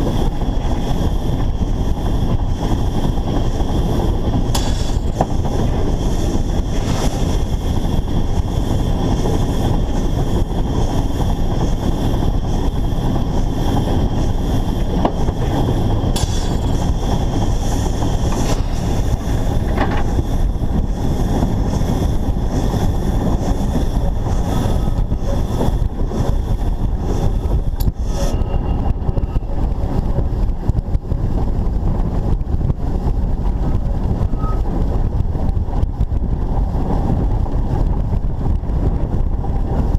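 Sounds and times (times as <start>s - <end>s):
steam locomotive running: 0.0s - 39.9s
wind rumble on microphone: 0.0s - 39.9s.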